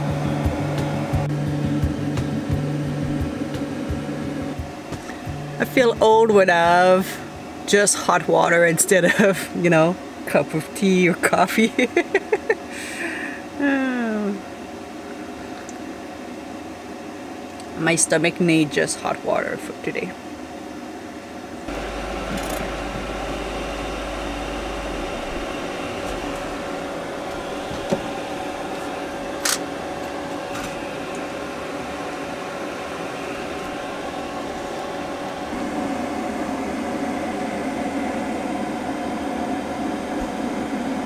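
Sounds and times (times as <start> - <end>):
mechanical hum with hiss: 0.0 - 41.0.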